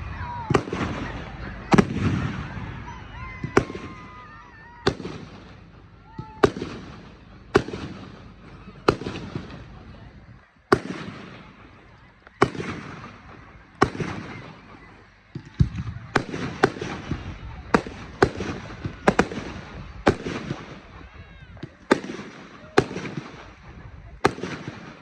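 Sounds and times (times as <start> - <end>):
firework bangs: 0.0 - 25.0
firework crackling: 0.0 - 25.0.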